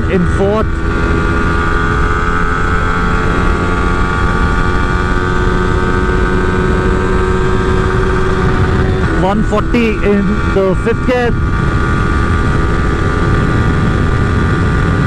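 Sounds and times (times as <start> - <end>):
motorcycle engine at high revs: 0.0 - 15.0
wind rumble on microphone: 0.0 - 15.0.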